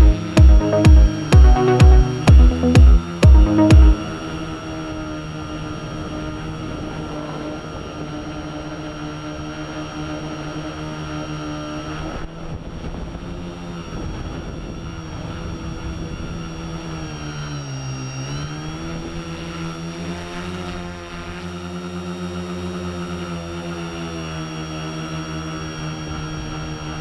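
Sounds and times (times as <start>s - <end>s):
drone propellers whining: 0.0s - 27.0s.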